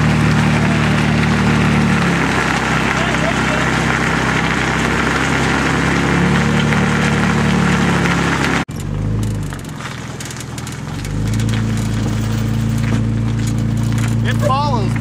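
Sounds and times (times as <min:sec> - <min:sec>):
road and wind noise: 0:00.0 - 0:15.0
truck engine running: 0:00.0 - 0:15.0.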